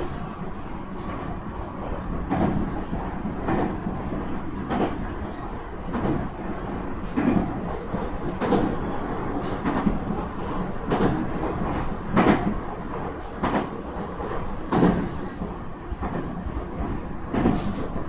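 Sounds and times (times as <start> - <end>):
rail joint clacks: 0.0 - 18.0
train wheels rumbling on rail: 0.0 - 18.0.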